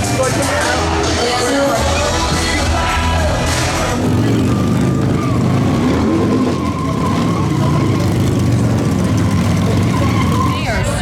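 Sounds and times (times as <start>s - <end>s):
motorcycle engine high revs: 0.0s - 11.0s
tyre squeal: 0.4s - 11.0s.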